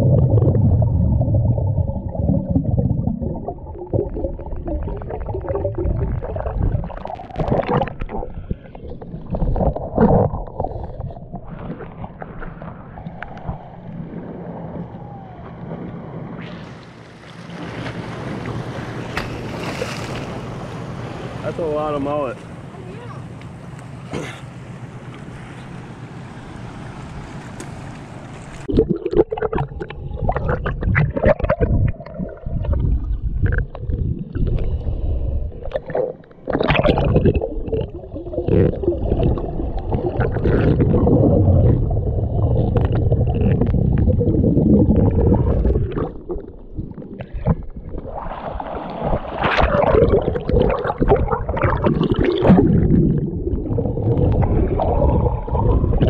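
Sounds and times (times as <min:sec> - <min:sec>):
underwater knocks and crackles: 0:00.0 - 0:16.5, 0:27.4 - 0:56.0
underwater gurgling and bubbling: 0:00.0 - 0:17.6, 0:28.5 - 0:56.0
underwater rumble of moving water: 0:00.0 - 0:56.0.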